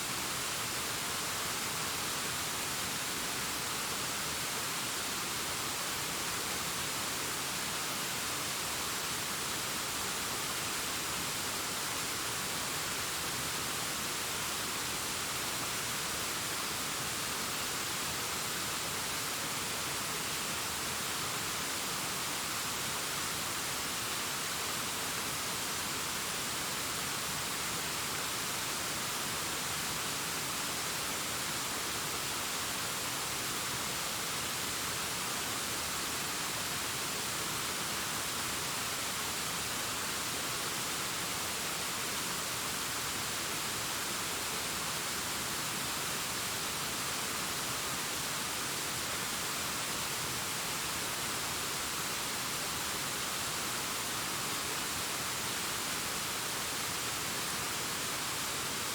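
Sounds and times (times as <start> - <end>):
distant waterfall rushing: 0.0 - 58.9.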